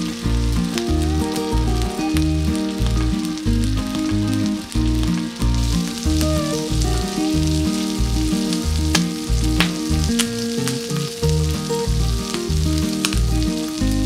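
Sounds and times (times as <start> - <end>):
food sizzling in hot oil: 0.0 - 14.0
music with bass beat: 0.0 - 14.0
oil popping: 0.0 - 14.0.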